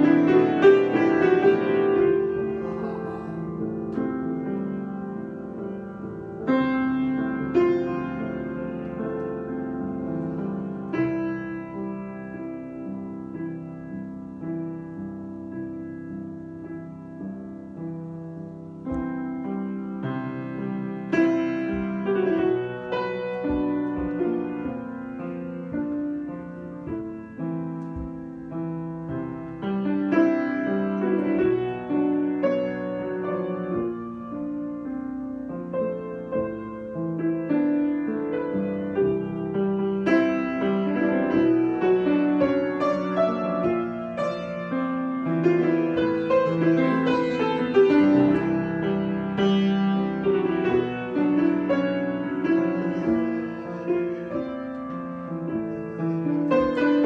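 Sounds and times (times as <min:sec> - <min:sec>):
solo piano: 0:00.0 - 0:57.0.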